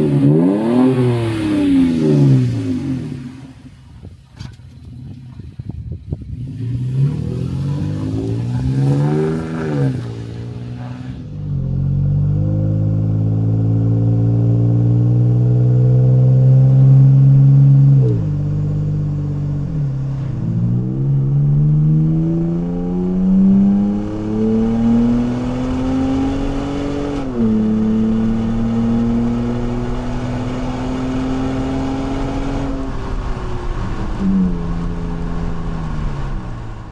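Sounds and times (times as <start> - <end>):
truck engine revving and accelerating: 0.0 - 3.6, 4.8 - 36.9.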